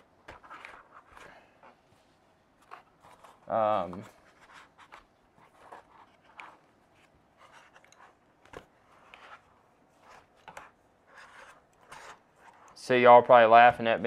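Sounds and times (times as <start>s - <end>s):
rubbing and scraping handling noises: 0.0s - 14.0s.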